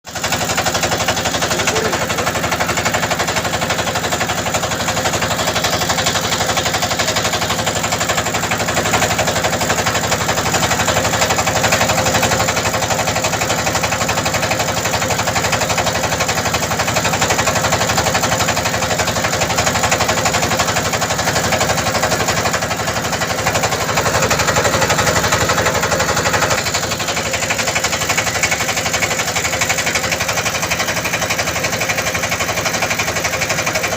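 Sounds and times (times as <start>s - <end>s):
motor boat engine chugging: 0.1s - 33.9s.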